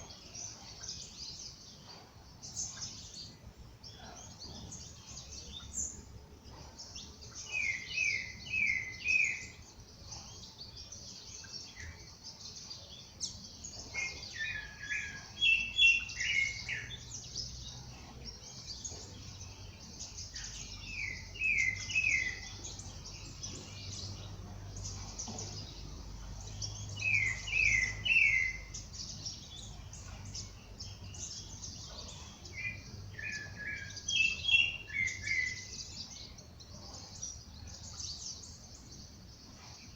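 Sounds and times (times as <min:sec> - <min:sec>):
birds chirping in dawn chorus: 0:00.0 - 0:39.9.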